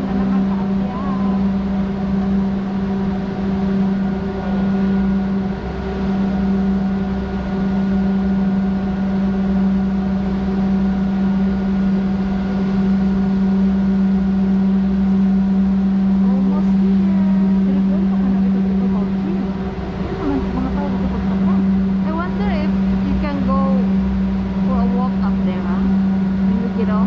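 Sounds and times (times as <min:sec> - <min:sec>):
aerial tram machine hum: 0:00.0 - 0:27.0.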